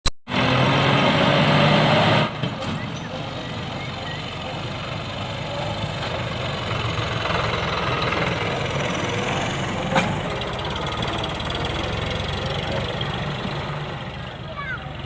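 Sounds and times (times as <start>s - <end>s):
tractor diesel engine running: 0.3s - 15.0s.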